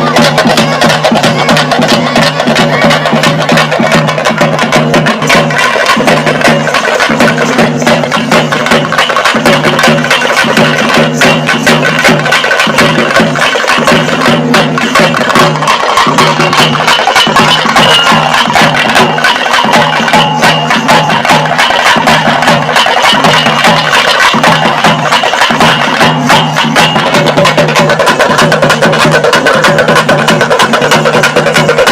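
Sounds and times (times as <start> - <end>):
fast loud drumming: 0.0 - 31.9.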